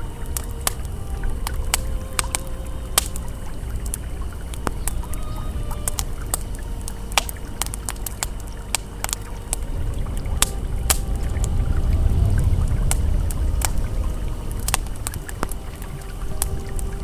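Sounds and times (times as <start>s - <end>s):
campfire crackling with pops: 0.0s - 17.0s
river flowing: 0.0s - 17.0s.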